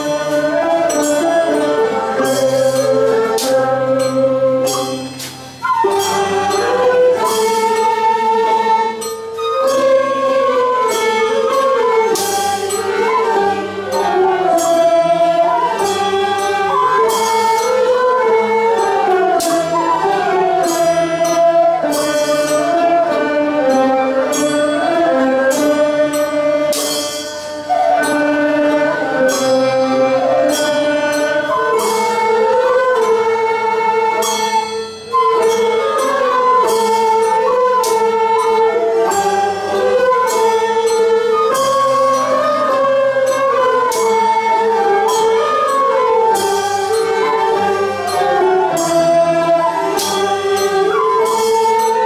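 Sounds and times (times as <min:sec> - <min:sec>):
percussion strokes: 0:00.0 - 0:52.0
voices singing slow melody: 0:00.0 - 0:52.0.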